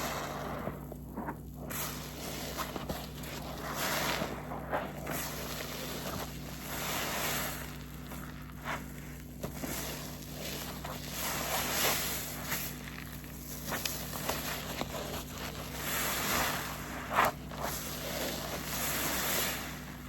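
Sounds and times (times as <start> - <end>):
wet sponge squelching: 0.0 - 20.0.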